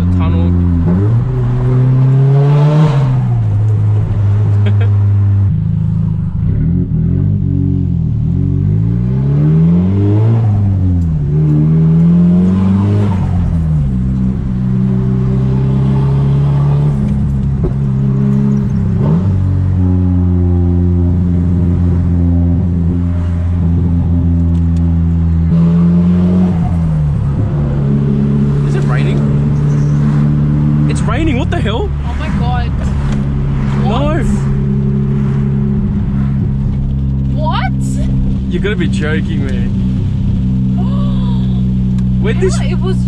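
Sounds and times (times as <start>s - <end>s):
car engine revving through gears: 0.0s - 40.9s.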